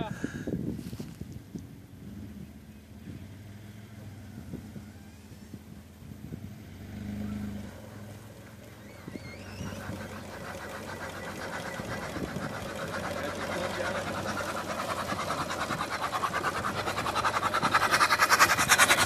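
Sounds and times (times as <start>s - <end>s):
tow vehicle hum: 0.0s - 19.0s
engine whine and mechanical clatter: 1.6s - 19.0s.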